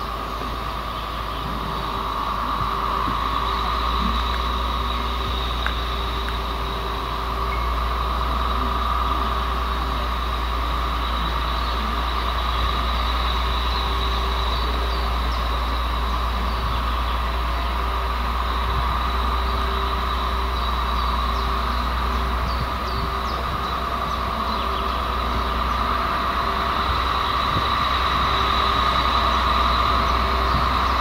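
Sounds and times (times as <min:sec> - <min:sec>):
diesel locomotive engine running: 0:00.0 - 0:31.0.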